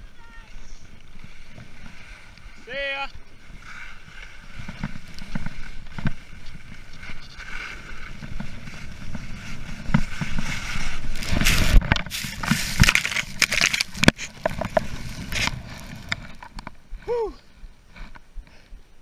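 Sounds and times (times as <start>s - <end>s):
edges scraping over snow: 0.1s - 16.5s.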